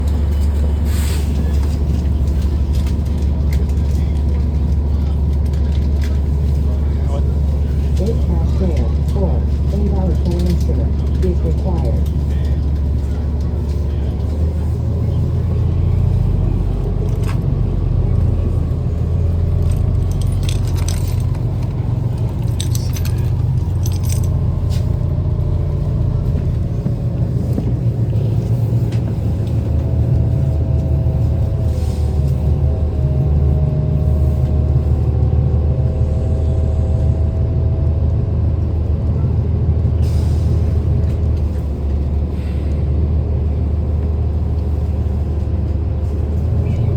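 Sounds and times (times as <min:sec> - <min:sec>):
bus engine and road rumble: 0:00.0 - 0:46.9.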